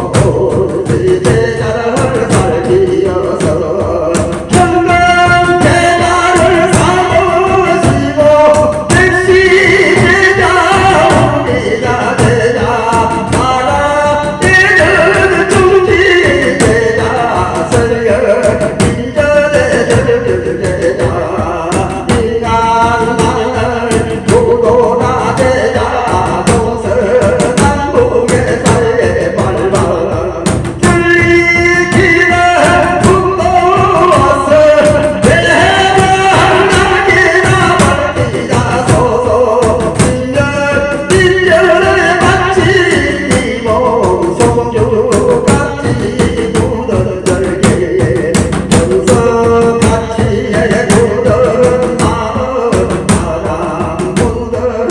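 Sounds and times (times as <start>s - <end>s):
person chanting: 0.0s - 54.9s
rapid drum beats: 0.0s - 54.9s.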